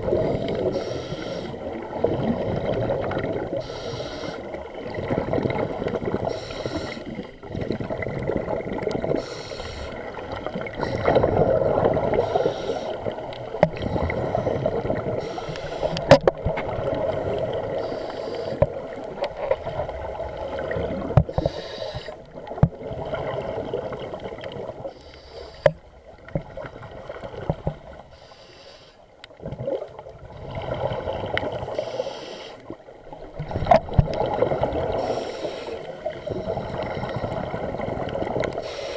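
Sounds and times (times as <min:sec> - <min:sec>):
exhaled bubbles underwater: 0:00.0 - 0:28.1, 0:29.3 - 0:31.9, 0:32.6 - 0:38.9
muffled rumble of water: 0:00.0 - 0:38.9.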